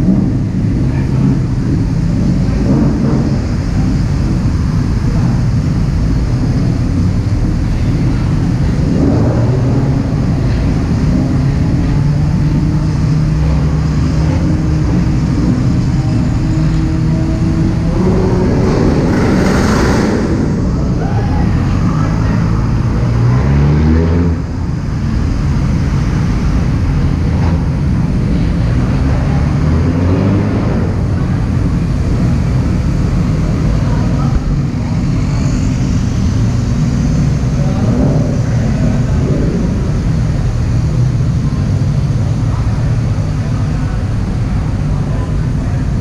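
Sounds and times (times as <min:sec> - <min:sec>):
car engines accelerating past: 0:00.0 - 0:46.0.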